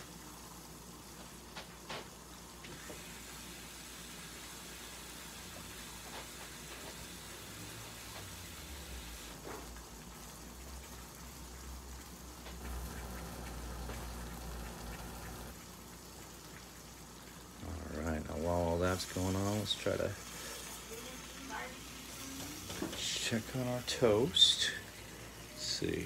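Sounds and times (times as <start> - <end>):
eggs sizzling in a frying pan: 0.0 - 26.0.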